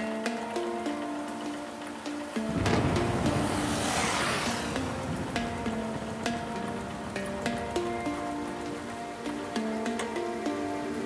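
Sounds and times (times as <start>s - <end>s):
plucked-string melody: 0.0s - 3.7s, 4.5s - 11.0s.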